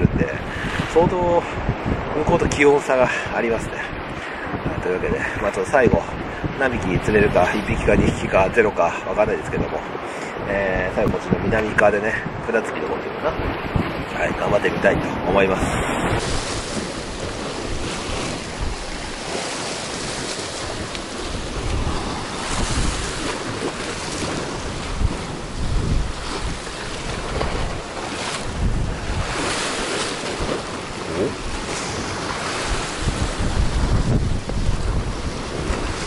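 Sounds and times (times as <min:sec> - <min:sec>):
surf washing over rocks: 0:00.0 - 0:36.0
wind buffeting microphone: 0:00.0 - 0:36.0.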